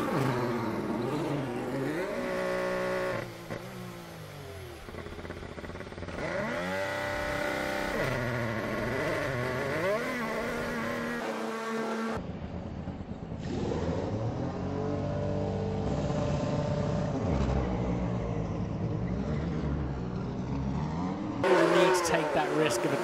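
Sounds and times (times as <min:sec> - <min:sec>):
race car engine revving: 0:00.0 - 0:12.2, 0:13.4 - 0:23.0
race car engines running: 0:00.0 - 0:23.0.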